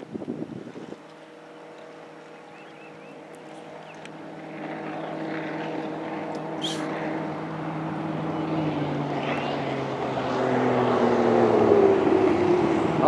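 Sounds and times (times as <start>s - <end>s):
outboard motor boat at speed: 0.0s - 13.0s.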